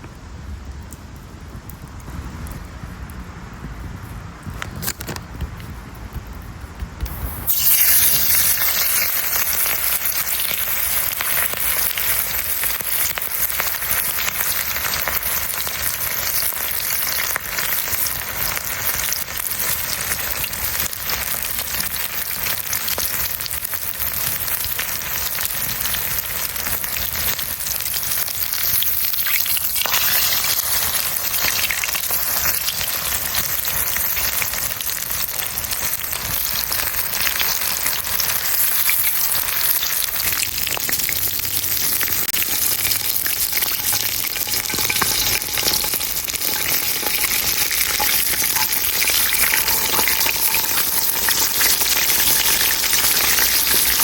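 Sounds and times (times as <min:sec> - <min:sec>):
chicken sizzling in hot oil: 0:07.0 - 0:54.0.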